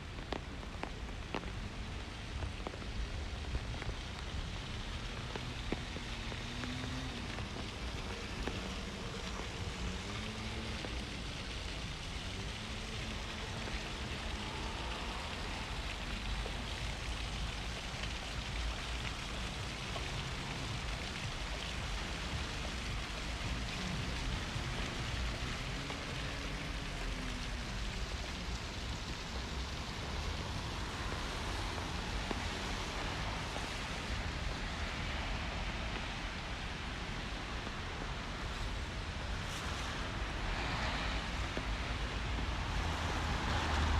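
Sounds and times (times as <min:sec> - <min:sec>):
low traffic rumble: 0:00.0 - 0:43.9
rain falling on street: 0:00.0 - 0:43.9.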